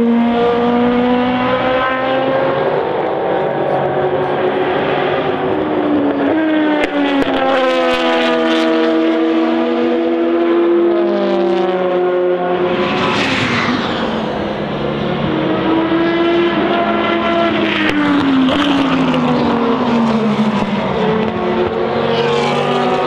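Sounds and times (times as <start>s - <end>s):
racing engine at full throttle: 0.0s - 23.0s.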